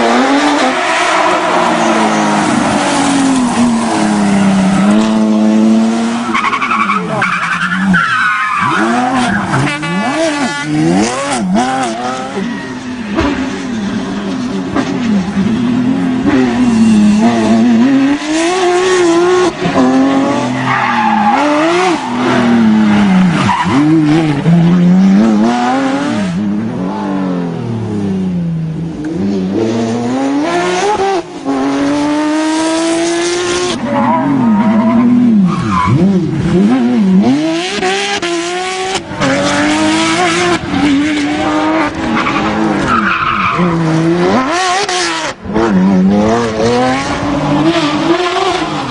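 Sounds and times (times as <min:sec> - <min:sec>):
rally car engine at full throttle: 0:00.0 - 0:48.9
tyres skidding: 0:00.0 - 0:48.9.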